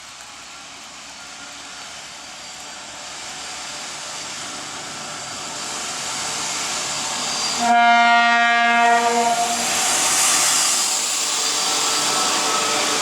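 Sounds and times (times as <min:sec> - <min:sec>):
diesel locomotive approaching: 0:00.0 - 0:13.0.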